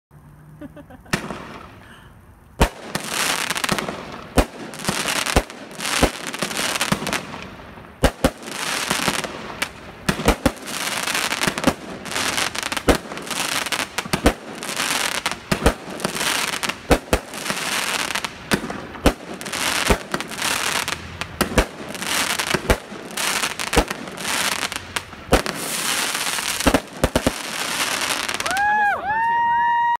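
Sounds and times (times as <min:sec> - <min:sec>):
fireworks crackling: 0:00.2 - 0:29.9
fireworks bangs: 0:01.1 - 0:02.0, 0:02.6 - 0:29.3.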